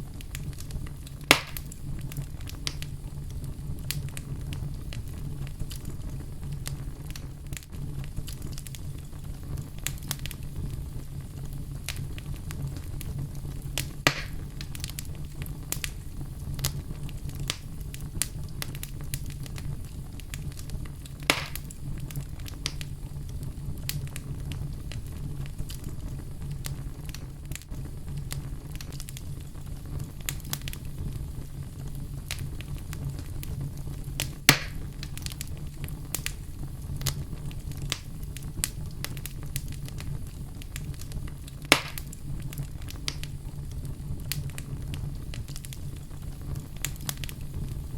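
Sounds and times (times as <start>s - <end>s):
fire crackling and popping: 0.0s - 47.9s
fire rumbling: 0.0s - 47.9s.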